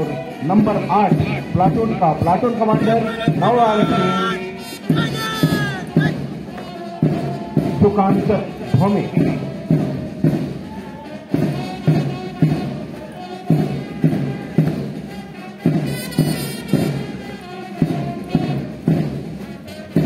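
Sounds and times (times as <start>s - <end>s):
military band playing a march: 0.0s - 20.0s
bass drum beat: 0.2s - 20.0s.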